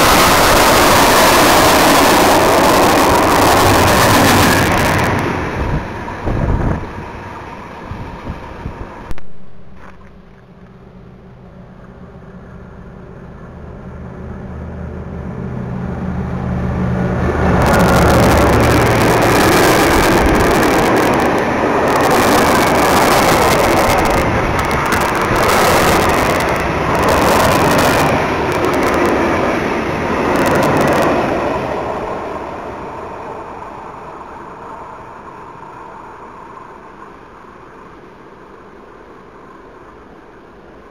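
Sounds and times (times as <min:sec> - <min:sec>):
locomotive humming: 0:00.0 - 0:40.9
train wagons rolling on rails: 0:00.0 - 0:40.9.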